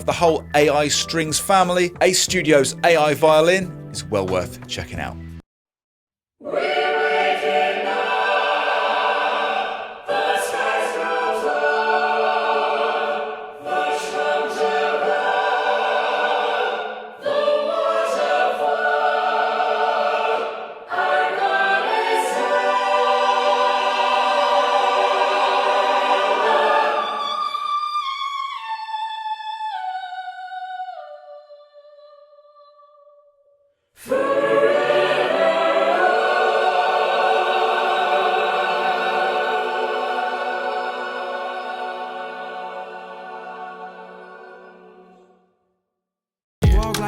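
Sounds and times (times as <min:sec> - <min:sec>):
choir singing sustained chords: 0:06.4 - 0:32.7, 0:34.0 - 0:45.6.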